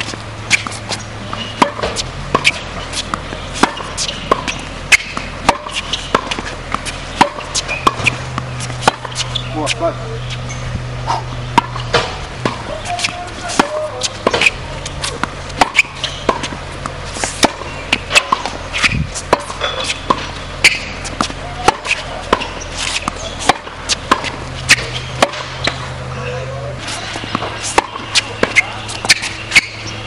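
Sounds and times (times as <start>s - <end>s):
racket striking tennis ball: 0.0s - 26.1s, 26.8s - 30.0s
tennis ball bouncing: 0.0s - 30.0s.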